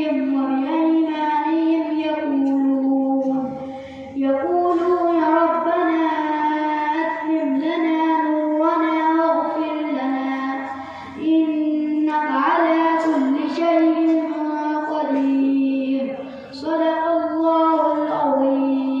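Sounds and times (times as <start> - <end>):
boy reciting melodically: 0.0 - 19.0.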